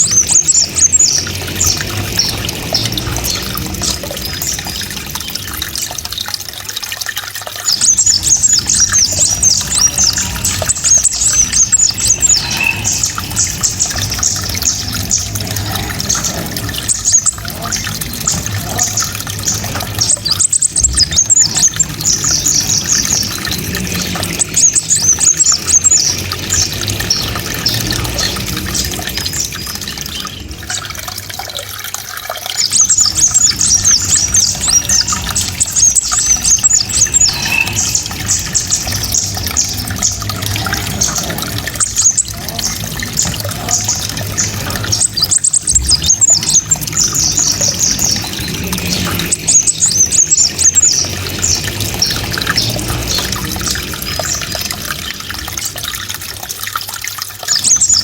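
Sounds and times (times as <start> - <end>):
songbird chattering song: 7.6 - 31.6, 32.4 - 55.8.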